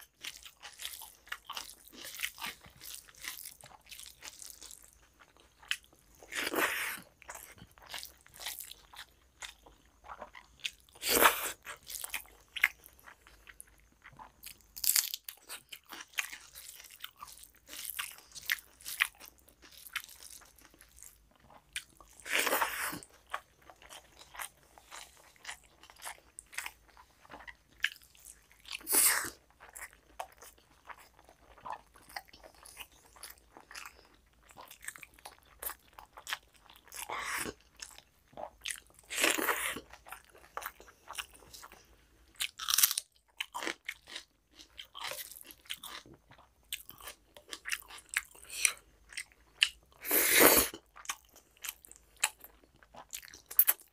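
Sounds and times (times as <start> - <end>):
person chewing: 0.0 - 53.9.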